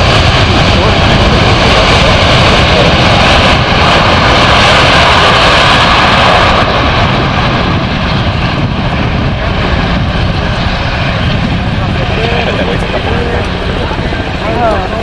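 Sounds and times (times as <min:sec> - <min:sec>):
jet airliner passing close: 0:00.0 - 0:15.0.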